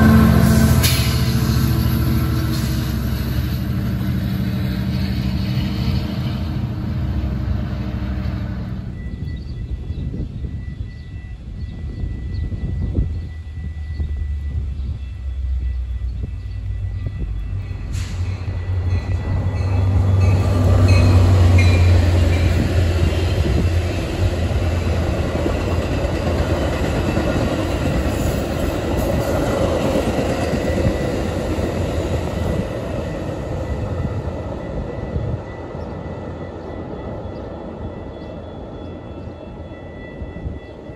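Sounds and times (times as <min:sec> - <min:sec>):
train coaches clattering on rails: 0:00.0 - 0:06.8, 0:08.2 - 0:40.9
diesel locomotive engine rumble: 0:00.0 - 0:40.9.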